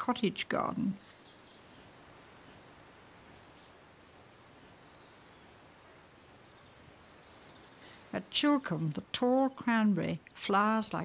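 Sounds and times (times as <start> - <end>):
tape hiss: 0.0 - 11.0.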